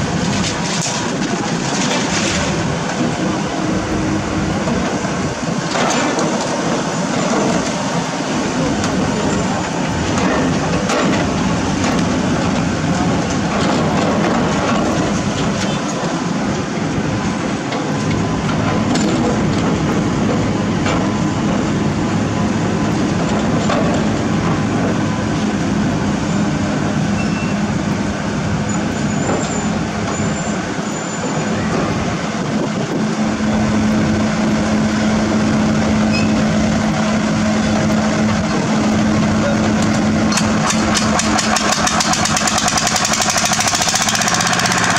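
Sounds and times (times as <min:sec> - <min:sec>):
diesel machinery engine drone: 0:00.0 - 0:44.9.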